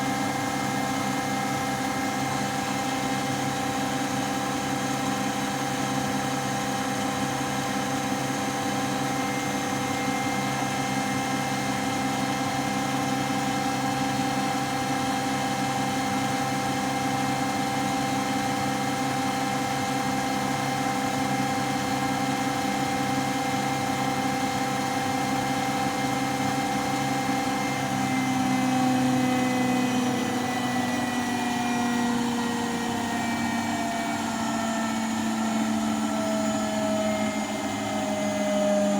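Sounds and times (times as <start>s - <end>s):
washing machine whine and hum: 0.0s - 38.9s.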